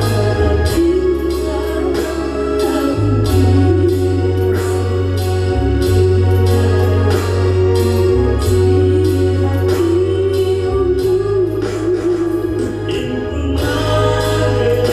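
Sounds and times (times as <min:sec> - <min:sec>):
loud music over pa system: 0:00.0 - 0:14.9.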